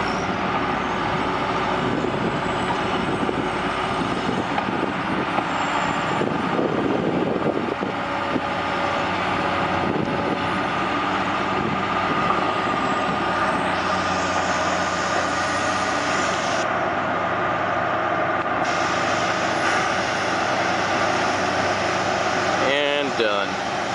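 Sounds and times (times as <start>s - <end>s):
heavy diesel machinery running: 0.0s - 23.9s.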